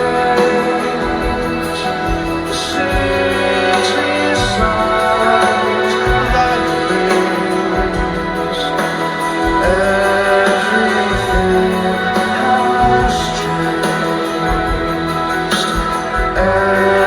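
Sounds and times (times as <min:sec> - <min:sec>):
man singing: 0:00.0 - 0:17.0
rock band playing slow song: 0:00.0 - 0:17.0.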